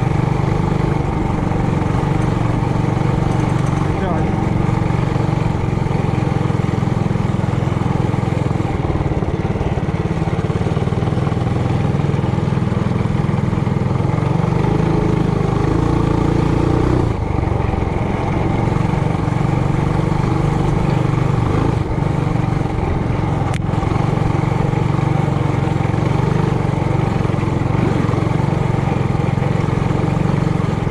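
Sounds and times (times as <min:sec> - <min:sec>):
mini bike engine running: 0:00.0 - 0:30.9.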